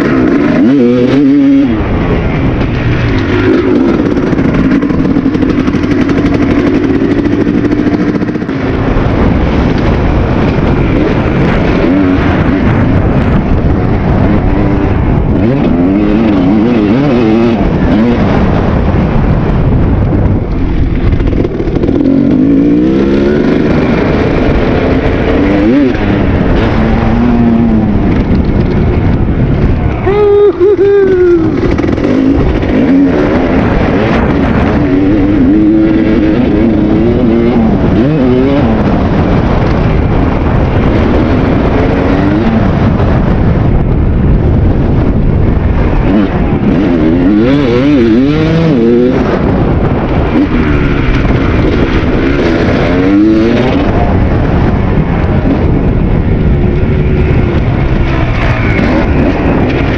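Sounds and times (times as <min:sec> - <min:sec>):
dirt bike engine revving: 0:00.0 - 0:59.9
loud rushing noise: 0:00.0 - 0:59.9.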